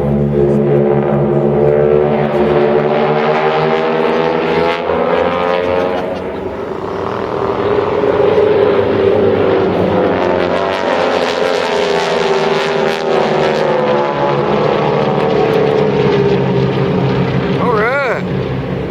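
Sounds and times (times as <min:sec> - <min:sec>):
propeller airplane flying past: 0:00.0 - 0:18.9.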